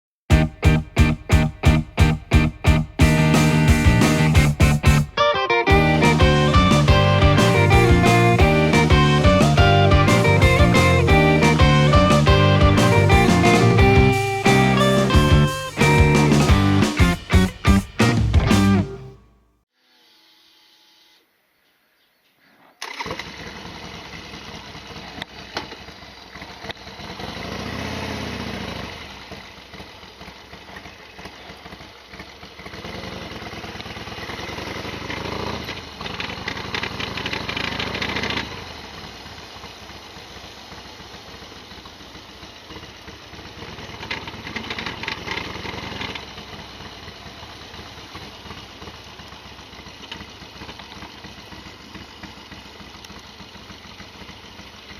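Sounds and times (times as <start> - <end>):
motorcycle engine revving: 0.3 - 19.2, 22.8 - 54.9.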